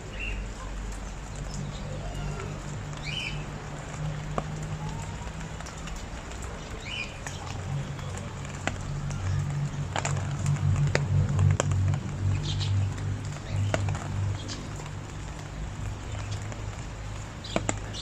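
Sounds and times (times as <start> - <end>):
low steady rumble: 0.0 - 18.0
steady rain: 0.0 - 18.0
drips ticking on hard surface: 0.2 - 18.0.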